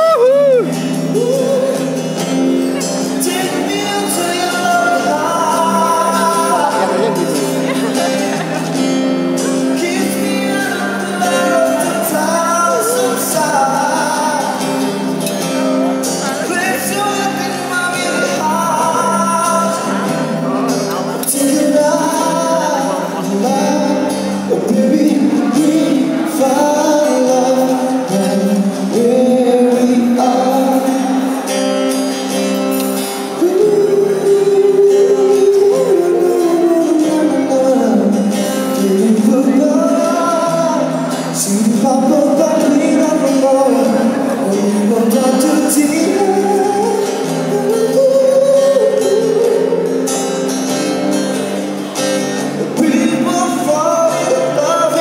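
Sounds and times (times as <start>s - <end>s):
electric guitar: 0.0s - 55.0s
man singing: 0.0s - 55.0s
strummed acoustic guitar: 0.0s - 55.0s.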